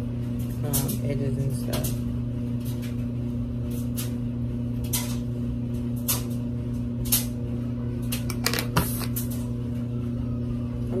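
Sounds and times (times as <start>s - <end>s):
washer and dryer humming: 0.0s - 11.0s.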